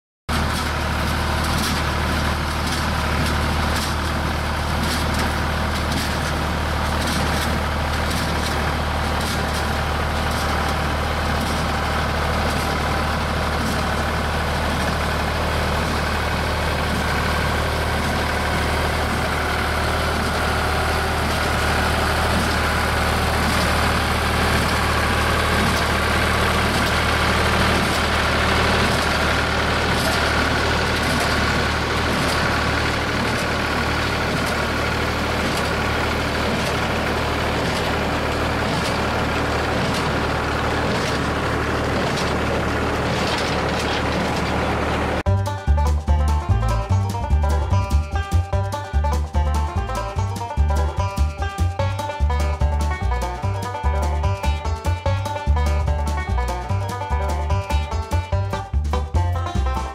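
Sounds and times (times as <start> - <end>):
tractor engine running under load: 0.3 - 59.9
baler sharp clacks: 0.4 - 59.9.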